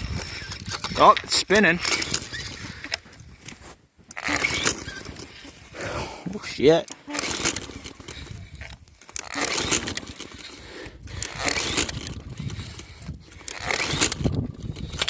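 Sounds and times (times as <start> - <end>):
engine cranking: 0.0 - 15.0
recoil starter pulled: 0.0 - 15.0.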